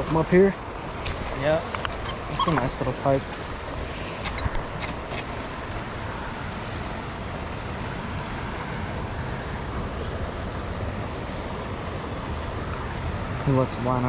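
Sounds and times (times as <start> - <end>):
river current rushing: 0.0 - 14.0.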